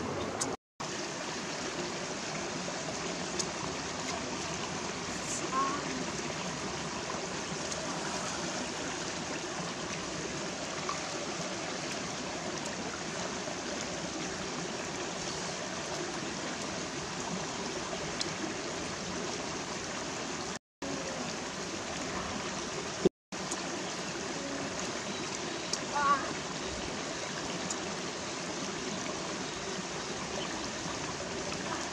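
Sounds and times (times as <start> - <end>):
stream running over rocks: 0.1 - 31.9.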